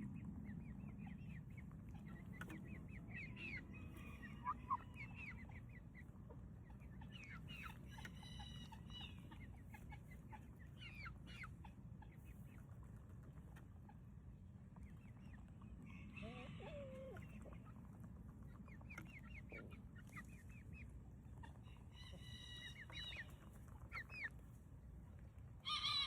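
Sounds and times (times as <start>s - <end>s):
low background rumble: 0.0s - 25.7s
chickens clucking: 0.0s - 26.0s.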